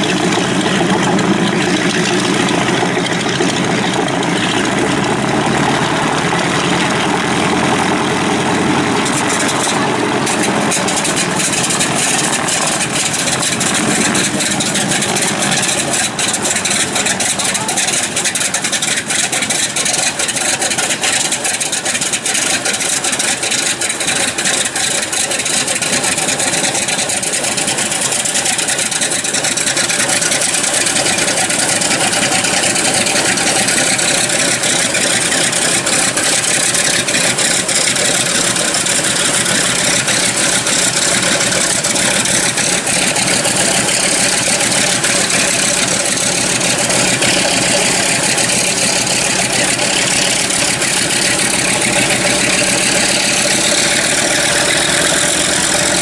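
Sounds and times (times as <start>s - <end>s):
radial aircraft engine idling: 0.0s - 56.0s.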